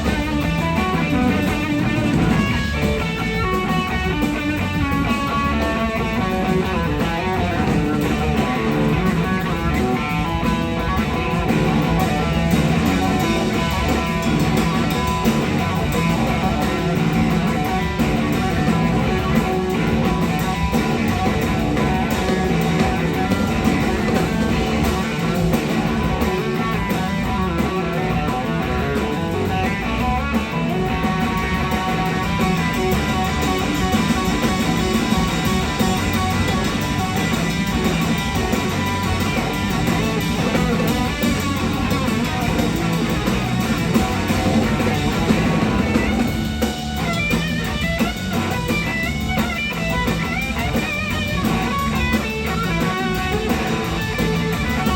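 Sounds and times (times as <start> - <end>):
blues-rock band playing: 0.0 - 54.9.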